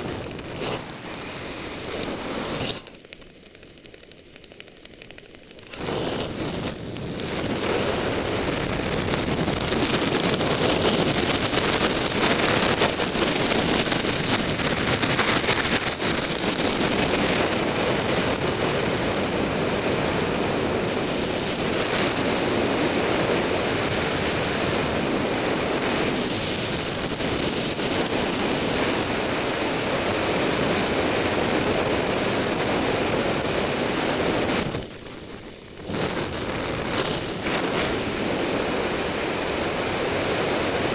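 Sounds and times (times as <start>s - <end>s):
rushing wind buffeting microphone: 0.0s - 40.9s.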